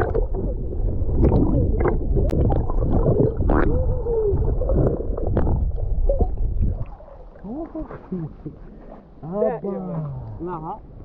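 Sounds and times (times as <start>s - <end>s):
underwater gurgling and warbling: 0.0s - 9.2s
underwater rumble of moving water: 0.0s - 11.0s.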